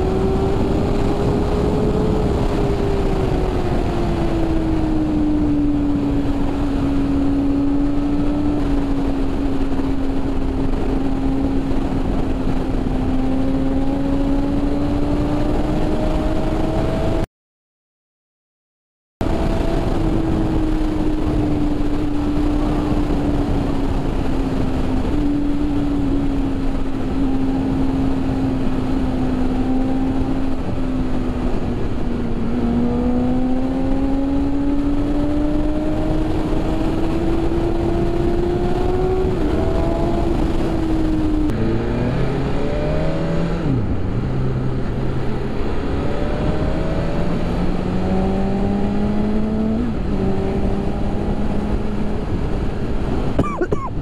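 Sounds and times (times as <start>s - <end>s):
motorcycle engine: 0.0s - 17.2s, 19.2s - 53.8s
wind rush: 0.0s - 17.2s, 19.2s - 54.0s.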